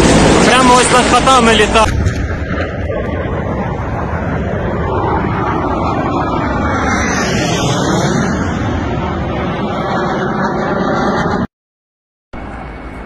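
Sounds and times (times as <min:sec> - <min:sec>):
military jet flying overhead: 0:00.0 - 0:11.5, 0:12.4 - 0:13.0.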